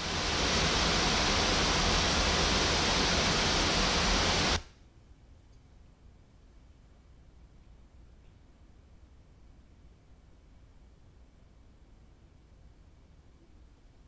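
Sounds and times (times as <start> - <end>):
noise test signal hiss: 0.0 - 14.0.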